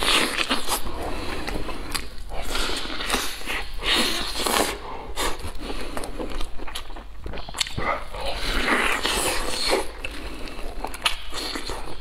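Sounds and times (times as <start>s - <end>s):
biting and chewing meat: 0.0s - 12.0s.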